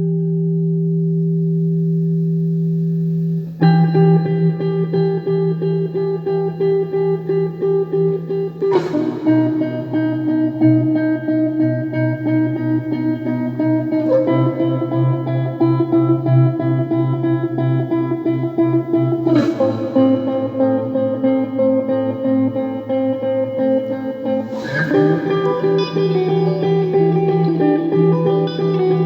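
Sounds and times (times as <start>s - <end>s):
electric guitar picking chords: 0.0s - 29.0s.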